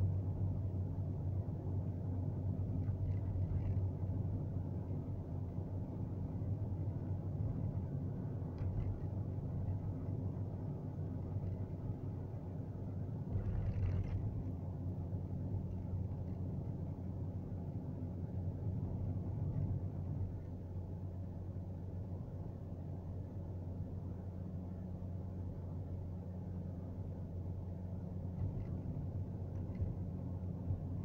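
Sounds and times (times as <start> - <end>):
car driving rumble: 0.0 - 31.0.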